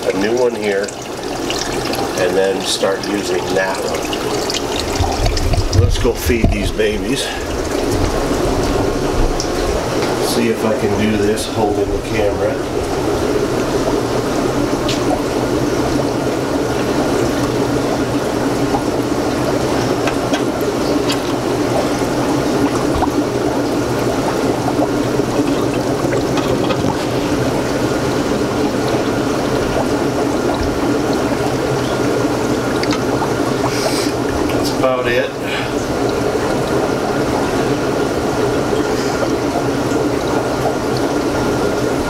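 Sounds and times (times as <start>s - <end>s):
aquarium water bubbling and trickling: 0.0s - 42.0s
constant hum: 0.0s - 42.0s.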